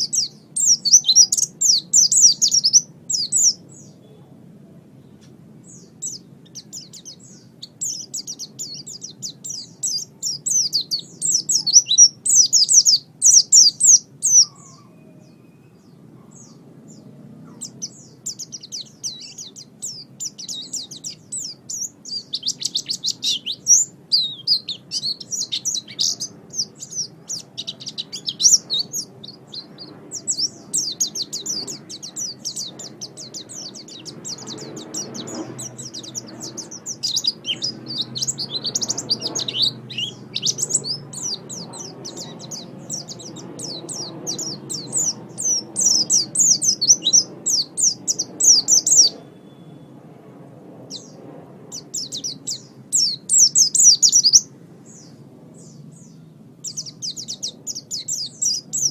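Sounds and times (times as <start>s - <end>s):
bird twittering song: 0.0s - 50.0s, 50.8s - 58.9s.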